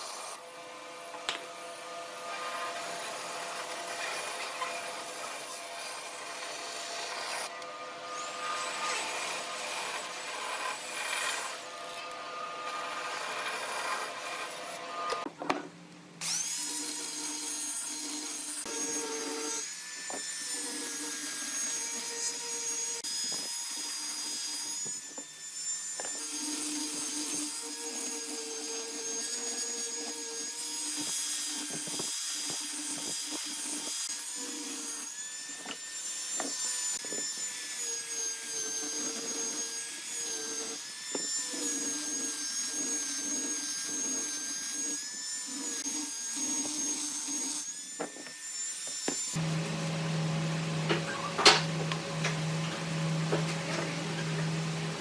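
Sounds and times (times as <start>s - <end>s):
power tool whine: 0.0s - 15.3s, 16.2s - 55.0s.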